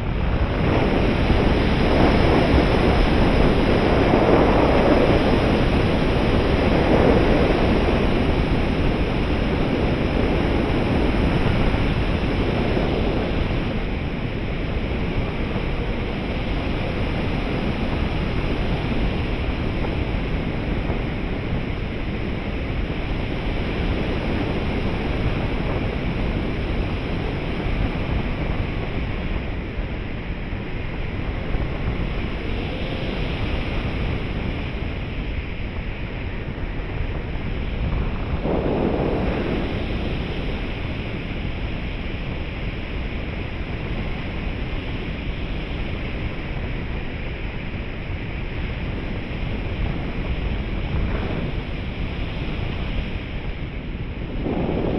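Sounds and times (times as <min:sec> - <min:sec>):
wind rushing over camera: 0:00.0 - 0:54.9.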